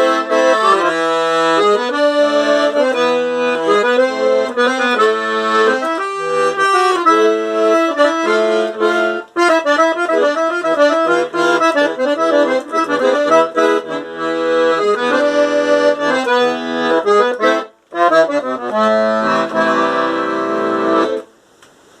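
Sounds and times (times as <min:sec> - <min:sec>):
accordion playing melody: 0:00.0 - 0:21.3.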